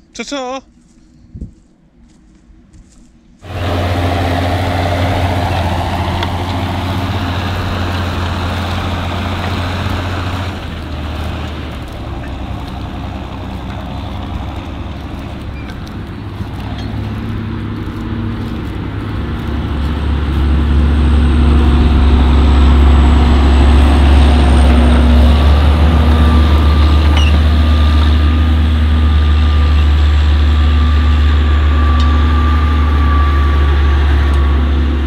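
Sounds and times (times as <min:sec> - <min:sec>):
tractor diesel engine droning: 0:03.4 - 0:35.0.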